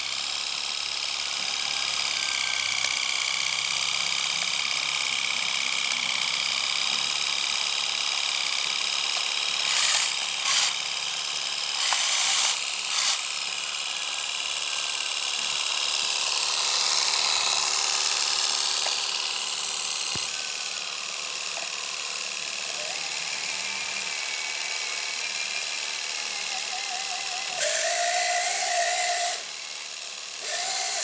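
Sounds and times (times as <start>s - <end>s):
small electric motors whining: 0.0s - 31.0s.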